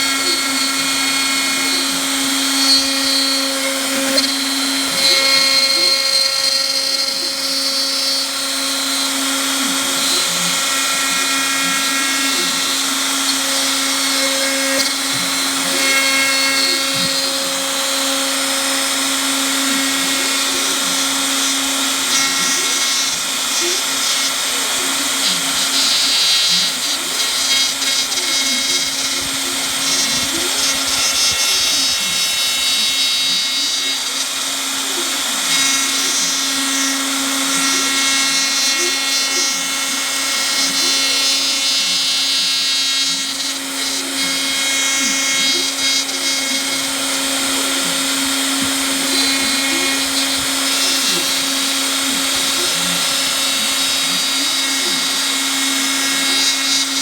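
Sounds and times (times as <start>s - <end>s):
router motor whine: 0.0s - 57.0s.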